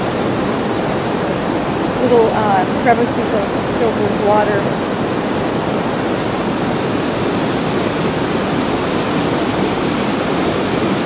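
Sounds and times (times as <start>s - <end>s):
waterfall roaring over rock: 0.0s - 11.0s.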